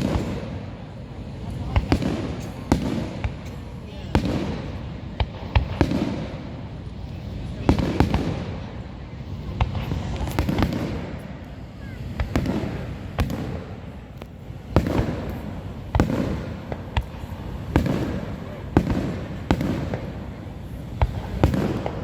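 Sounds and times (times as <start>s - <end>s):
fireworks bangs with rumbling echo: 0.0s - 22.0s.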